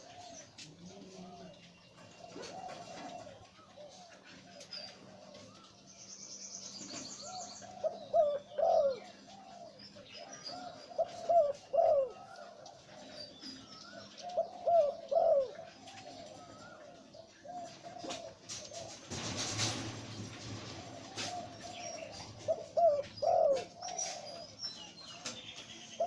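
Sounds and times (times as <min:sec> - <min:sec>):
dove cooing: 0:00.0 - 0:05.8, 0:06.9 - 0:26.0
small birds chirping: 0:00.0 - 0:19.0, 0:19.8 - 0:26.0.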